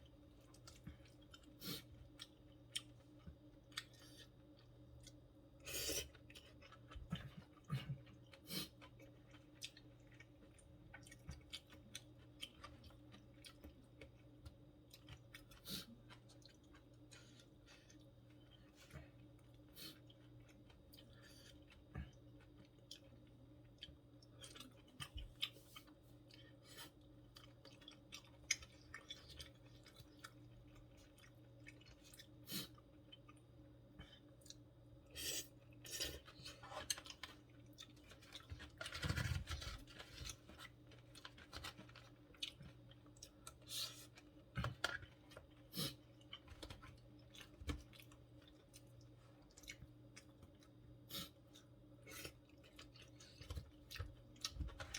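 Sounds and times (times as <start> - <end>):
chewing and eating: 0.0 - 54.9
faint steady hum: 0.0 - 54.9.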